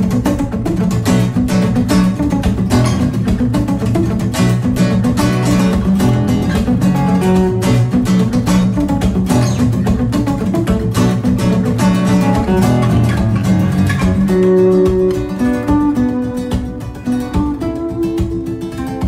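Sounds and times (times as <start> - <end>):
fast-strummed acoustic guitar: 0.0 - 19.0.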